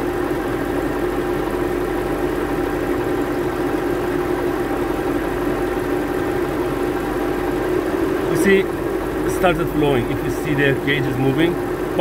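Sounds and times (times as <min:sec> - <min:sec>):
air conditioning hum: 0:00.0 - 0:12.0
car engine idling: 0:00.0 - 0:12.0.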